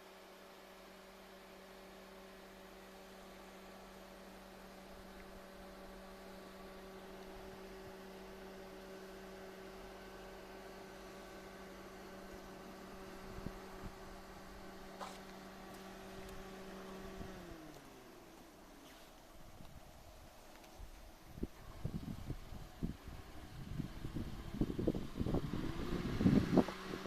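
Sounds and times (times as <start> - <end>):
steady low hum: 2.4 - 27.0.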